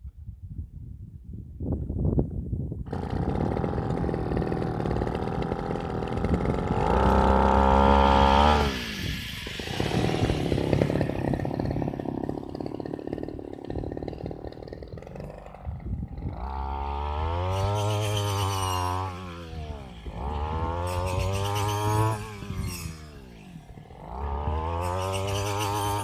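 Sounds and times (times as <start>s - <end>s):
harvesting machine engine revving: 2.9s - 26.0s.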